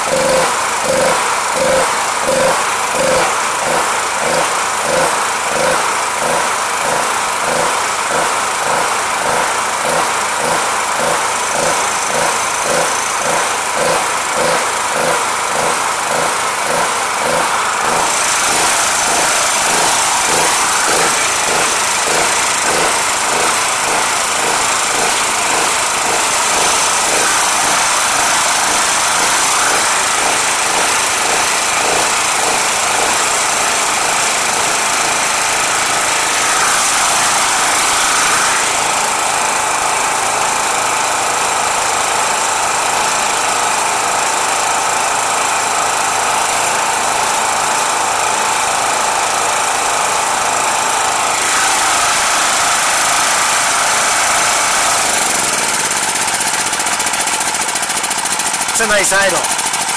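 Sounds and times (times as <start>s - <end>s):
generator engine running: 0.0s - 59.9s.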